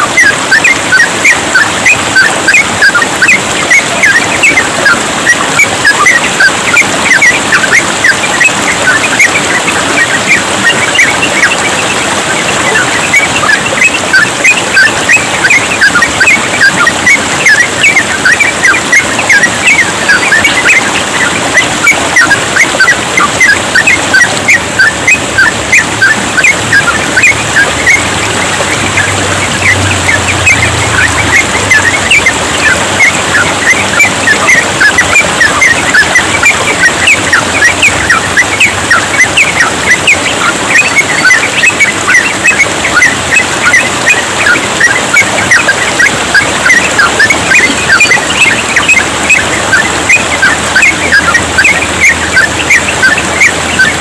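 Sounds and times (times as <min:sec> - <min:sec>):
birds chirping rapidly: 0:00.0 - 0:54.0
water trickling: 0:00.0 - 0:54.0.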